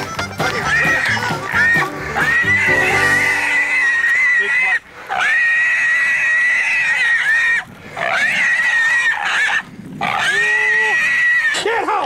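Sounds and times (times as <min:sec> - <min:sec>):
hog squealing: 0:00.0 - 0:12.0.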